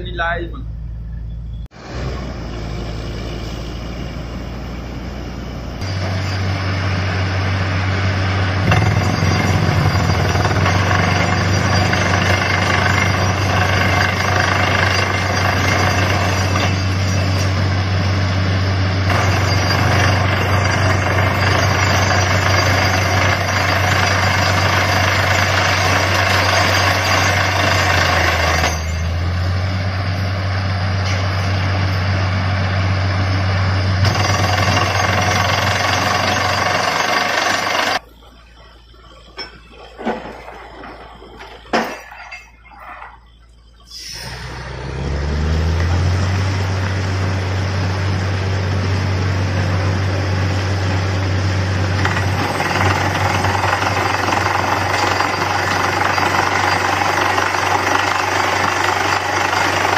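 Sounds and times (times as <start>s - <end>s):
drilling rig engine drone: 0.0s - 59.9s.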